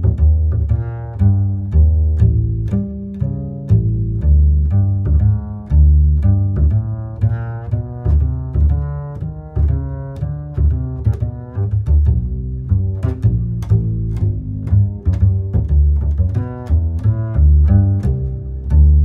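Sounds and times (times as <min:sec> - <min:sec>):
deep bass line: 0:00.0 - 0:19.0.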